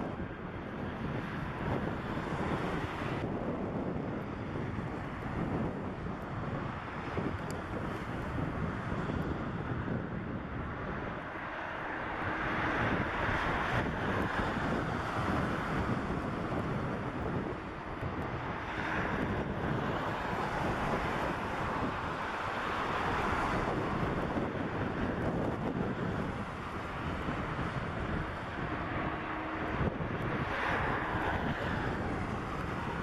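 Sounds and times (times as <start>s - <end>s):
jet engines running: 0.0s - 33.0s
wind buffeting microphone: 0.0s - 33.0s.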